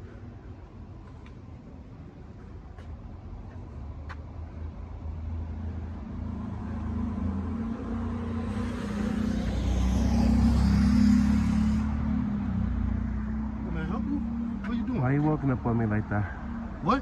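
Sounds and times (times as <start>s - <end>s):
car engine approaching: 0.0s - 17.0s.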